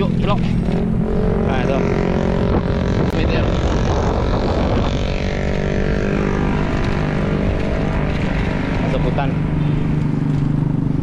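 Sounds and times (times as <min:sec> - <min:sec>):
low rumble of road noise: 0:00.0 - 0:11.0
vehicle engine passing by: 0:00.0 - 0:11.0.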